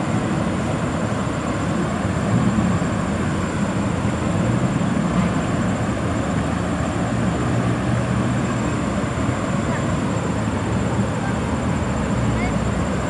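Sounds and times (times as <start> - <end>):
distant dump trucks rumbling: 0.0 - 13.0.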